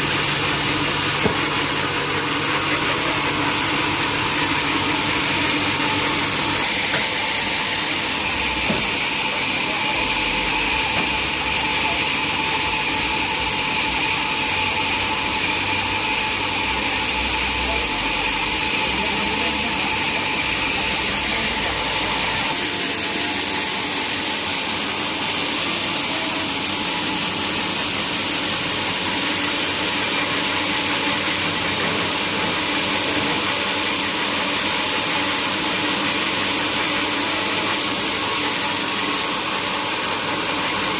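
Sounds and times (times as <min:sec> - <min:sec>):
sawmill machinery hiss and whine: 0:00.0 - 0:40.9.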